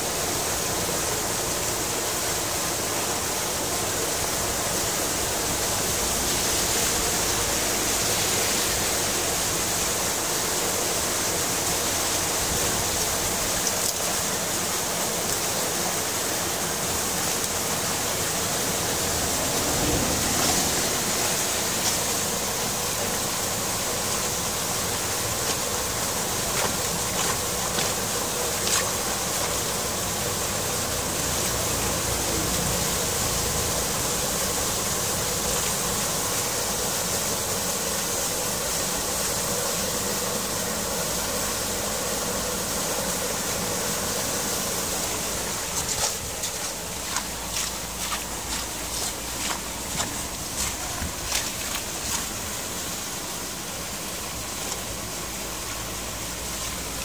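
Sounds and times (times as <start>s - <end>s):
floodwater rushing through a grate: 0.0s - 57.0s.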